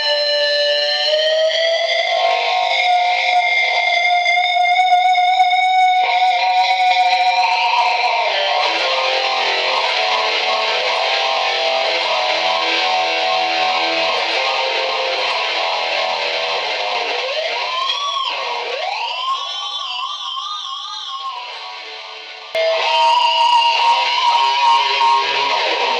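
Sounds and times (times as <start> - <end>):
loud electric guitar: 0.0 - 25.9.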